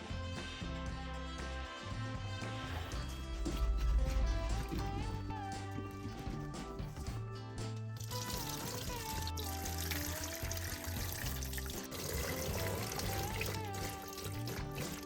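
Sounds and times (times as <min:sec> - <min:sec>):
background music gliding melody: 0:00.0 - 0:15.0.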